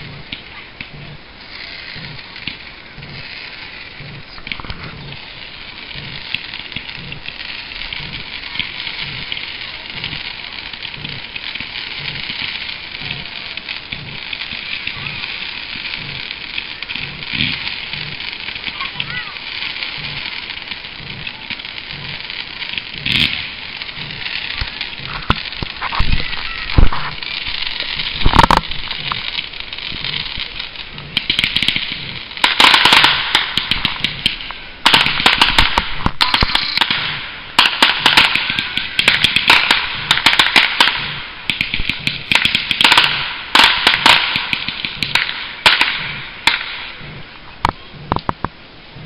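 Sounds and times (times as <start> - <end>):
firework bangs: 0.0 - 49.0
firework crackling and popping: 0.0 - 49.0.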